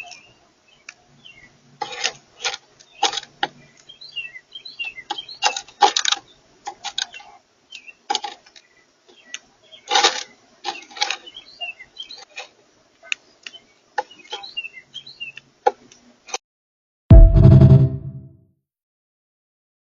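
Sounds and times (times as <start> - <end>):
small birds chirping faintly: 0.0 - 16.4.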